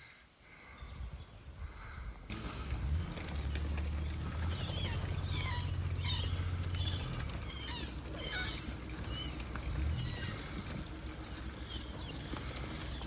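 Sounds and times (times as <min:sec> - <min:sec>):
birds chirping: 0:00.0 - 0:13.0
vehicle engine idling: 0:02.3 - 0:13.0.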